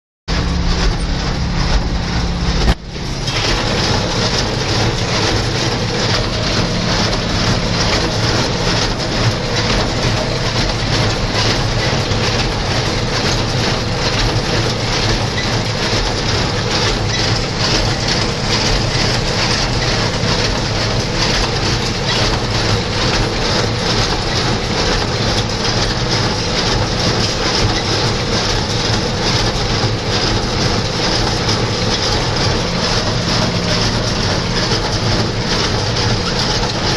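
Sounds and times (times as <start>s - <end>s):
baler mechanical clatter: 0.3s - 36.9s
tractor engine drone: 0.3s - 36.9s.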